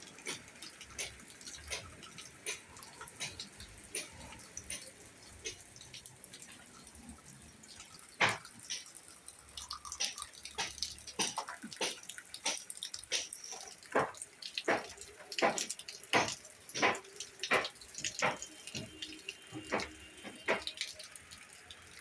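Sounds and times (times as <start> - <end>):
water dripping and splashing: 0.0 - 22.0.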